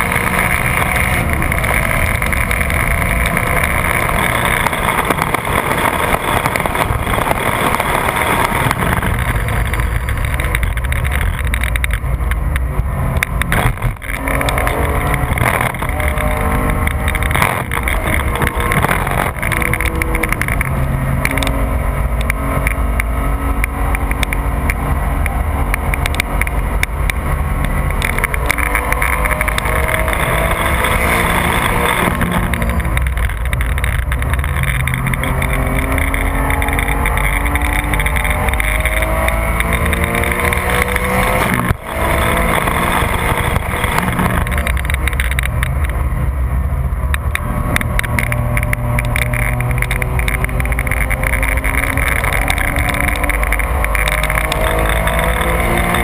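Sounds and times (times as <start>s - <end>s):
car engine running hard: 0.0s - 56.0s
wind and road noise: 0.0s - 56.0s.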